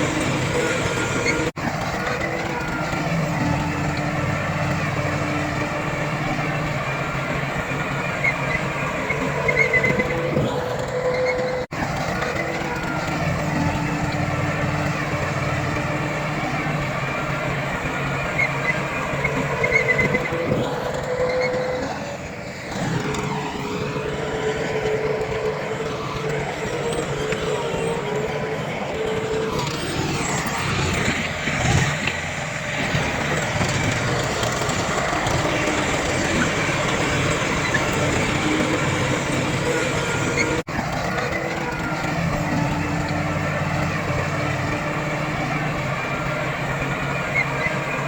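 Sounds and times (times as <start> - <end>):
earthmoving machinery diesel engine: 0.0 - 48.0
steady machine whine: 0.0 - 48.0.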